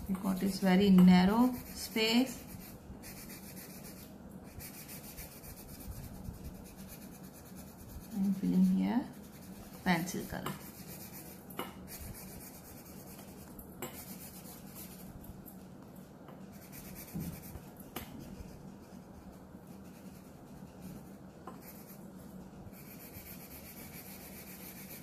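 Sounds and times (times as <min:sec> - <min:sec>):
pencil scratching on paper: 0:00.2 - 0:15.1, 0:16.4 - 0:25.0.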